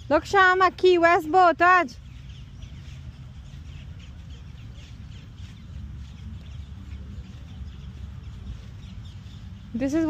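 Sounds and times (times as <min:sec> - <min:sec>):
faint birds chirping: 0:00.0 - 0:10.0
steady low rumble: 0:00.0 - 0:10.0.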